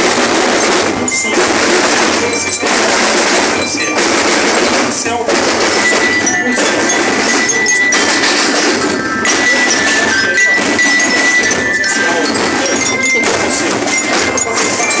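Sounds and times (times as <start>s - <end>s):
high piping note: 0.0s - 15.0s
percussion band drums: 0.0s - 15.0s.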